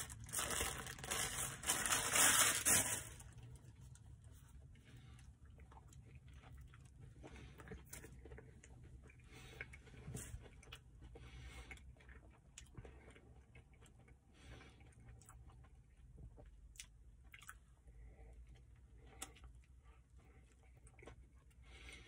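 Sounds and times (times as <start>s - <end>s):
low steady hum: 0.0s - 22.0s
close-up chewing: 3.4s - 22.0s.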